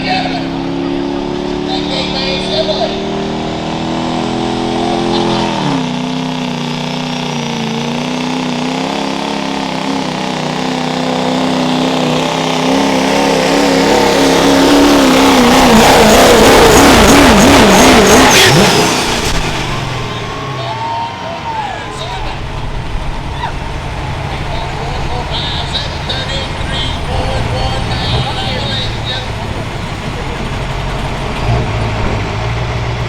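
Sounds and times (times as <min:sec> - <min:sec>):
diesel truck engine at full throttle: 0:00.0 - 0:33.0.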